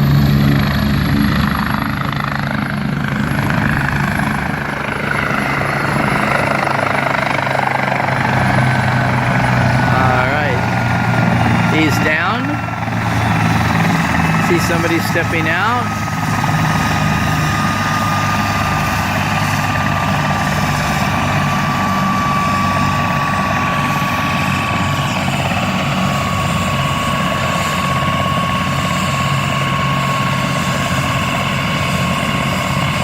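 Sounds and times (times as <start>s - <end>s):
helicopter rotor beat: 0.0s - 33.0s
high turbine whine: 0.0s - 33.0s.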